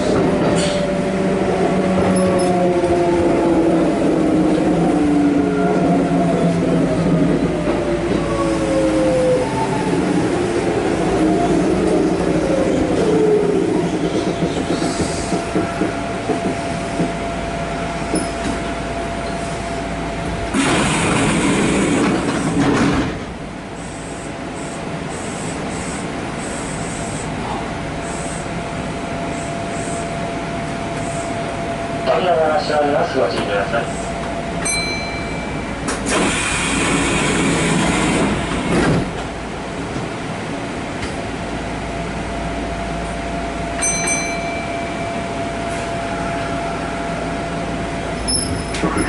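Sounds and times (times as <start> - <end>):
electric train hum and hiss: 0.0 - 49.0.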